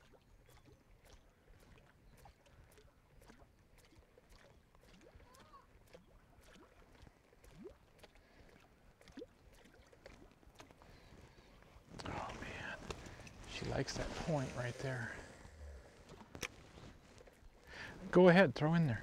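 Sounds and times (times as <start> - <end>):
faint water on a lake: 0.0 - 19.0.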